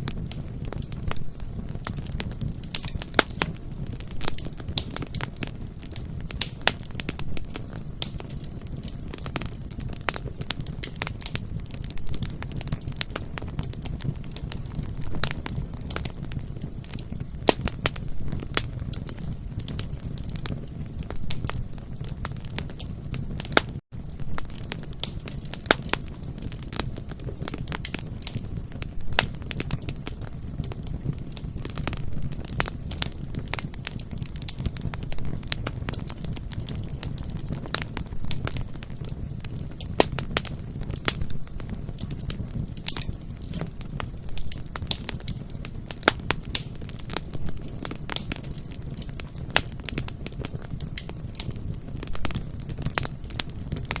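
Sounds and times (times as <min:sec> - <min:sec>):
bonfire crackling and popping: 0:00.0 - 0:54.0
low noise of burning fire: 0:00.0 - 0:54.0
low rumble of flames: 0:00.0 - 0:54.0.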